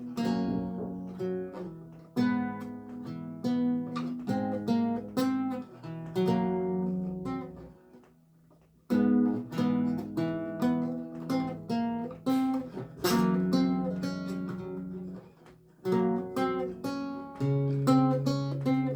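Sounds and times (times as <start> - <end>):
solo lute plucking: 0.0 - 18.9.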